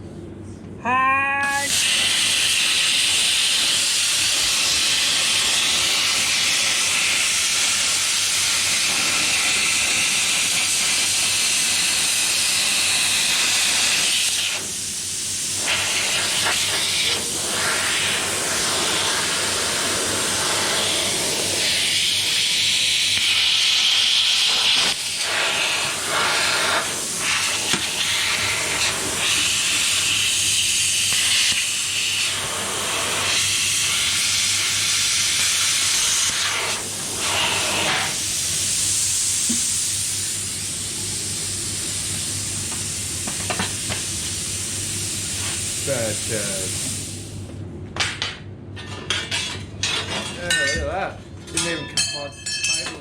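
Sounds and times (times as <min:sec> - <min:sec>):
plasma cutter hissing: 0:01.4 - 0:47.4.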